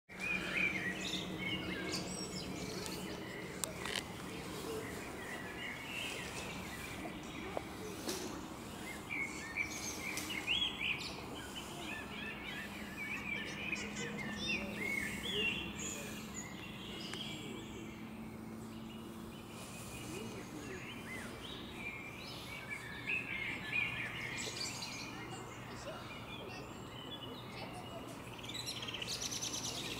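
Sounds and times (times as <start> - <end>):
songbirds chirping and singing: 0.1 - 29.9.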